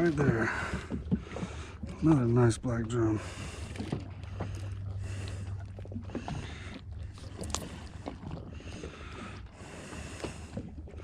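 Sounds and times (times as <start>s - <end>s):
boat engine low hum: 0.0s - 11.0s
water noise: 0.0s - 11.0s
wind: 0.0s - 11.0s.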